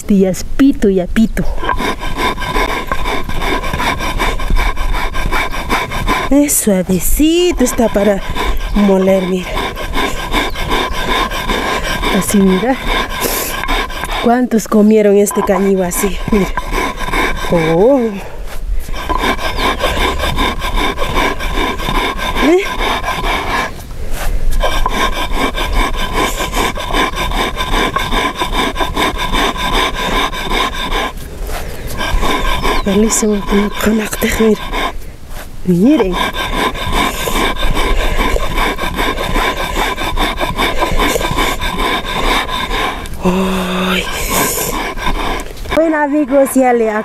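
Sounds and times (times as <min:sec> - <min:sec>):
grinding stone scraping grain: 0:01.4 - 0:47.0.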